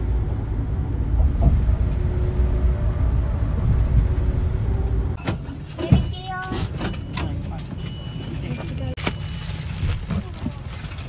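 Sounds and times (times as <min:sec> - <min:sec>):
moving vehicle rumble: 0:00.0 - 0:11.0.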